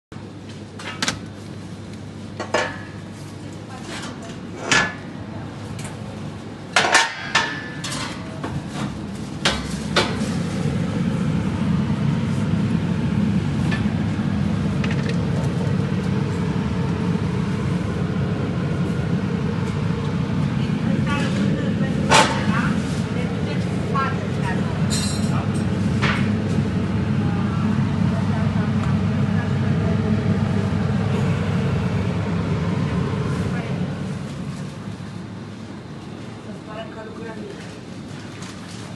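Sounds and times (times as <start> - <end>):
cooling fan hum: 0.1 - 38.9.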